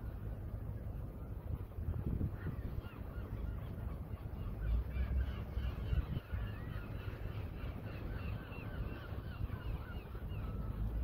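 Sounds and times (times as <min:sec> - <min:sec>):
birds chirping: 0:01.1 - 0:11.0.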